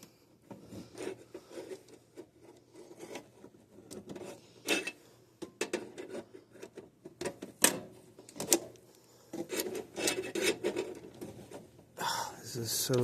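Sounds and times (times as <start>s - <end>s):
tools clicking and knocking on wires: 0.0s - 11.7s.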